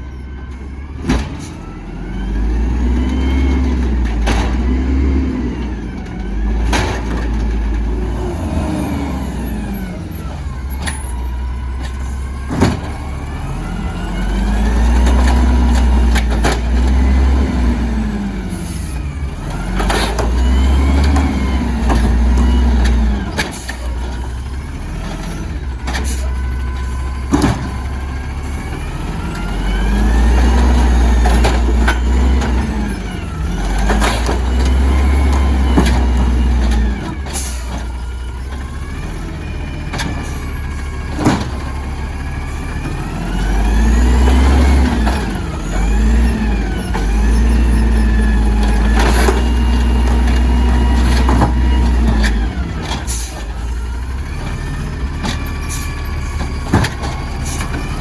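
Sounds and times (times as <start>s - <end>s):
truck diesel engine revving: 0.0s - 58.0s.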